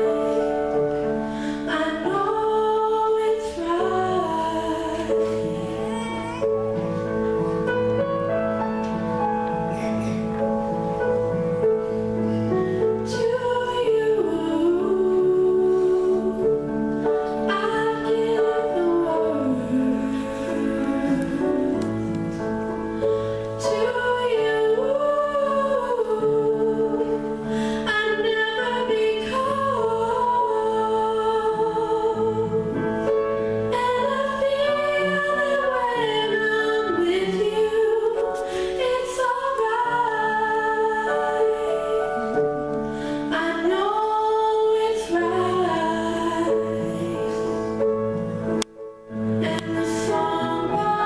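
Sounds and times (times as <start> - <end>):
instrumental accompaniment: 0.0 - 51.0.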